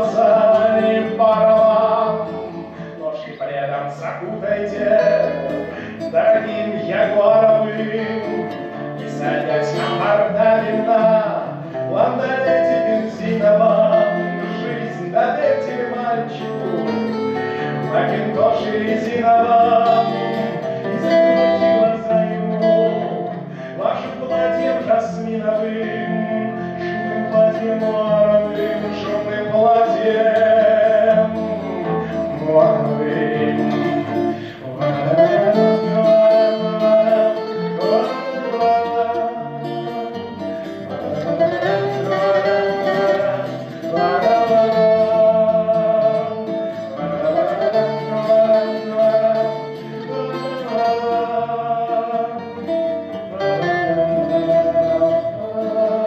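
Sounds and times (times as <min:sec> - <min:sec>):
acoustic guitars playing: 0:00.0 - 0:56.0
sliding guitar melody: 0:00.0 - 0:56.0.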